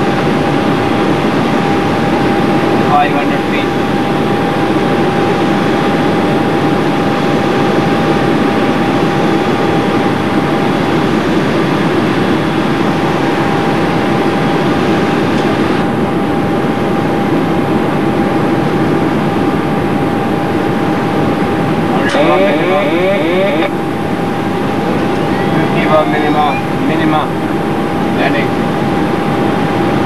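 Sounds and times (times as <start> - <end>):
airflow and engine rush: 0.0 - 30.0
thin steady whine: 0.0 - 30.0.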